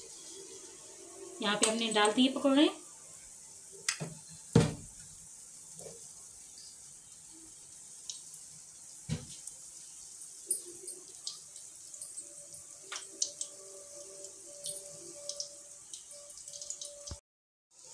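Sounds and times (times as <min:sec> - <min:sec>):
oil sizzling while deep-frying: 0:00.0 - 0:17.9.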